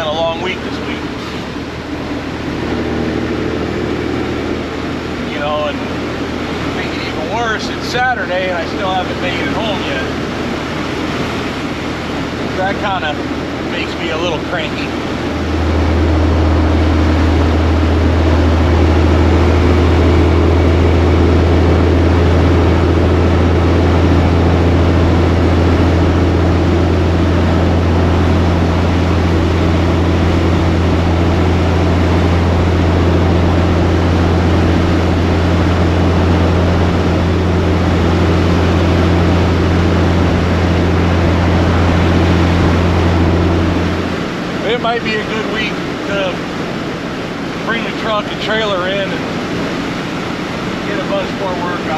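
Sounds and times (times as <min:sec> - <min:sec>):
diesel truck engine droning: 0:00.0 - 0:51.9.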